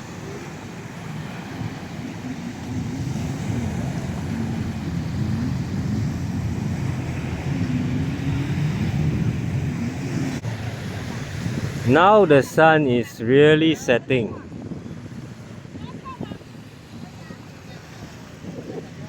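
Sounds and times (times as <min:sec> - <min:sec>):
surf: 0:00.0 - 0:19.0
watercraft engine running: 0:00.0 - 0:19.0
wind on microphone: 0:00.0 - 0:19.0.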